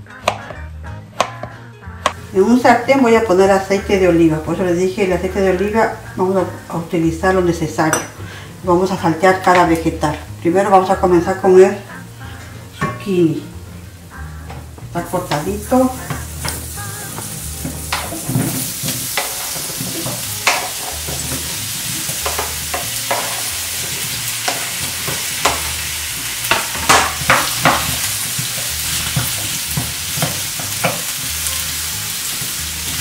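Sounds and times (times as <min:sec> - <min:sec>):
vegetables sizzling in oil: 0:02.1 - 0:33.0.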